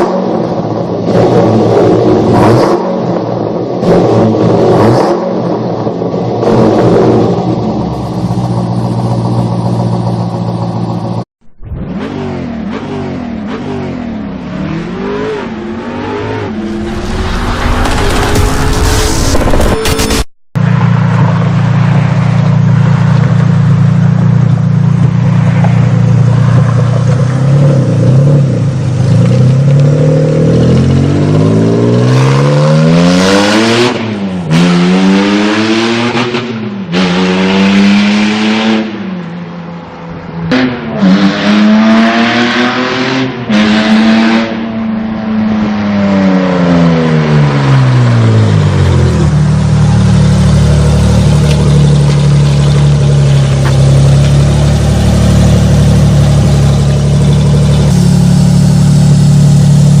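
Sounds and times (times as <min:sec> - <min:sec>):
car engine idling and revving: 0:00.0 - 1:00.0.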